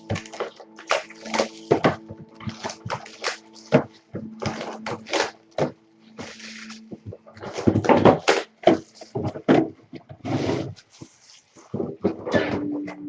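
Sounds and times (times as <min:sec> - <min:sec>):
handling knocks and rustles: 0:00.0 - 0:13.0.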